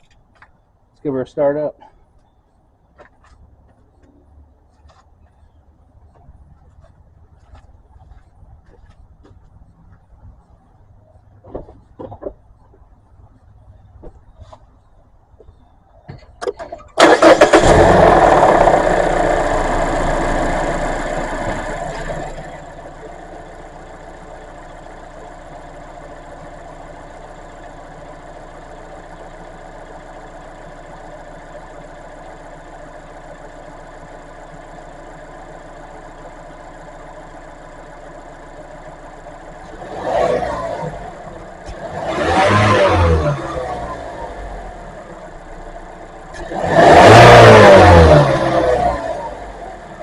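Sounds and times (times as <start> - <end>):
car engine starting and idling: 0.0 - 50.0.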